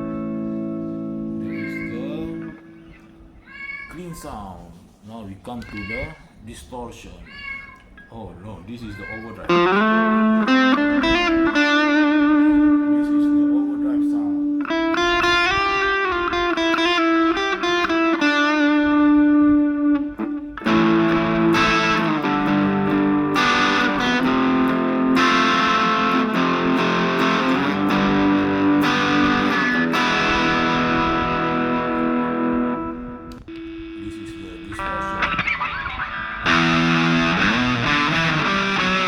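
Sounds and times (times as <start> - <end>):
overdriven electric guitar: 0.0 - 3.4, 9.5 - 39.0.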